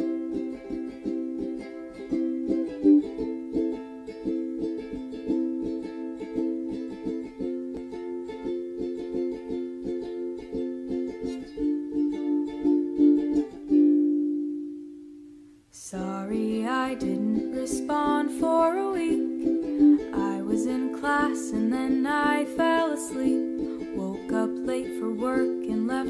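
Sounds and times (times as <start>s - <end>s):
strummed ukulele pop music: 0.0s - 26.0s.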